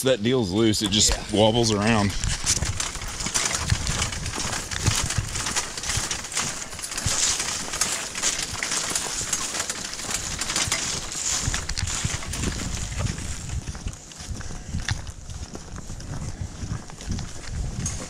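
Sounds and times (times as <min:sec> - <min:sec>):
metal cart rattling: 0:00.6 - 0:18.0
footsteps crunching on leaves: 0:00.9 - 0:18.0.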